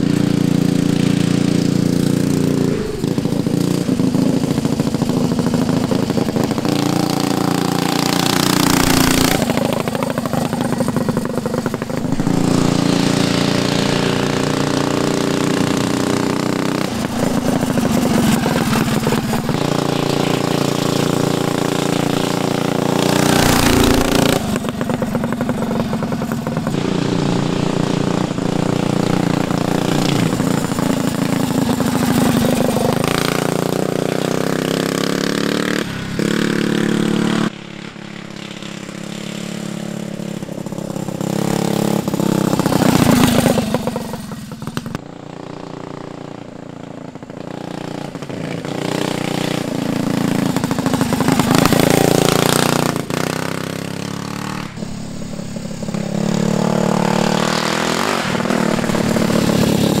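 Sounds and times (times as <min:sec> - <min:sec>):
mini bike engine revving: 0:00.0 - 1:00.0.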